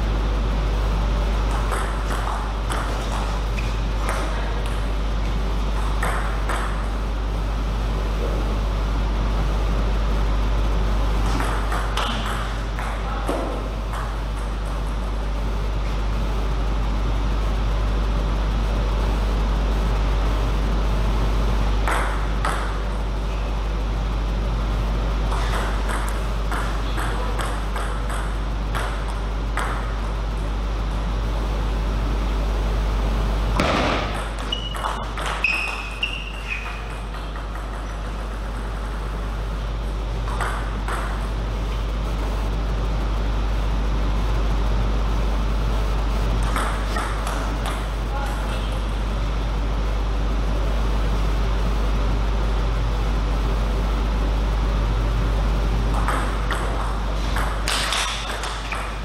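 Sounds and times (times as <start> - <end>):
low hum: 0.0 - 59.0.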